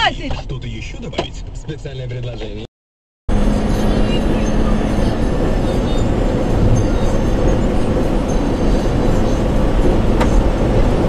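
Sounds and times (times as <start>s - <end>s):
moving vehicle rumble: 0.0s - 2.7s, 3.3s - 11.0s.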